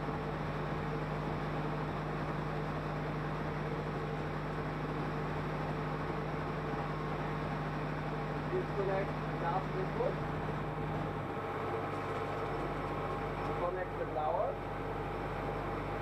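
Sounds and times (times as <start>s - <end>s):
engine humming steadily: 0.0s - 16.0s.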